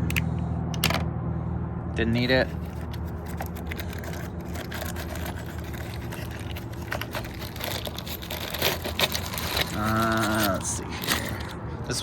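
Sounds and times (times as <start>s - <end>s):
gear rustling and crinkling: 2.2s - 12.0s.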